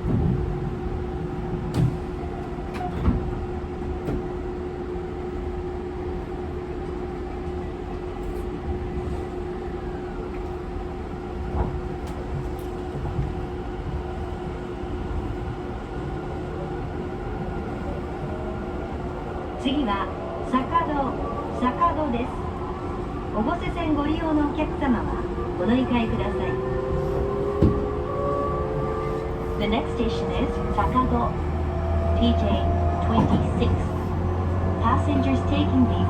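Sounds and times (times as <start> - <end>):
train wheel rumble: 0.0 - 36.0.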